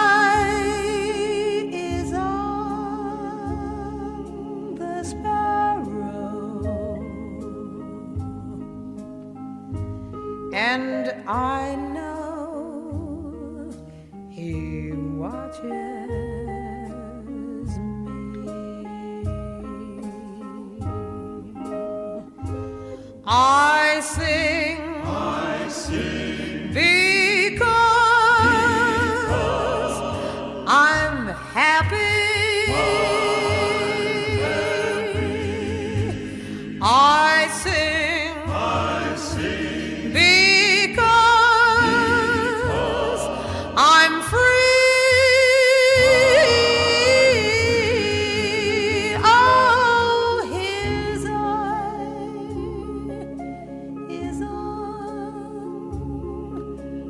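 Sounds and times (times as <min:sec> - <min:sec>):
woman singing a hymn: 0:00.0 - 0:08.8, 0:10.5 - 0:21.8, 0:23.2 - 0:56.6
soft accompaniment: 0:00.0 - 0:57.0.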